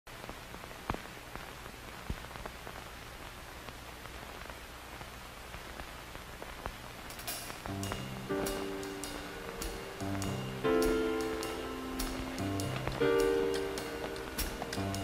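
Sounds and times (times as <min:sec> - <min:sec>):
hiss and crackle: 0:00.1 - 0:15.0.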